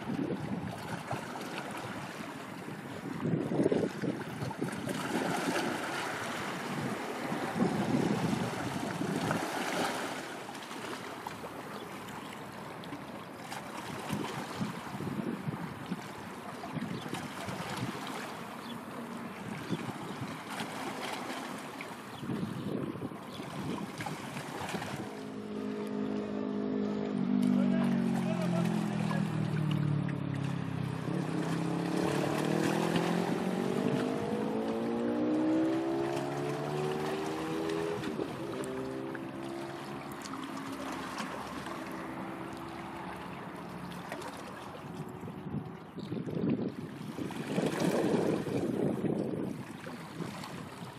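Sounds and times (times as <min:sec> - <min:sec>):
wind on microphone: 0:00.0 - 0:10.1, 0:13.8 - 0:21.2, 0:22.0 - 0:40.0, 0:44.6 - 0:50.9
boat engine running: 0:00.0 - 0:50.9
sea water washing: 0:00.0 - 0:50.9.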